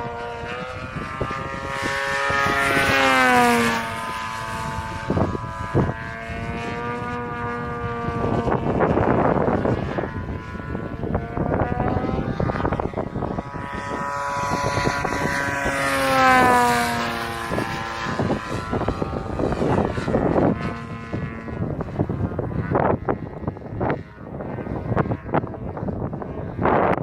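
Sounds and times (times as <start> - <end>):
model plane engine passing: 0.0 - 27.0.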